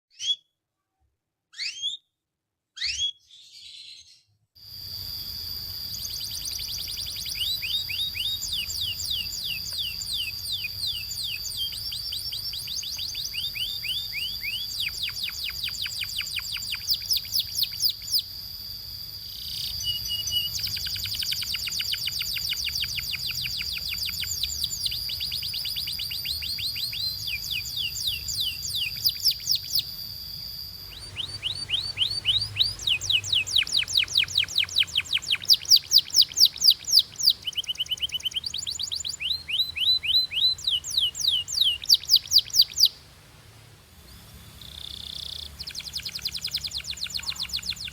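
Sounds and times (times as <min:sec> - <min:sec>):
canary singing trills: 0:01.5 - 0:02.0, 0:02.8 - 0:43.1, 0:44.0 - 0:47.9
steady high whistle: 0:04.6 - 0:43.0.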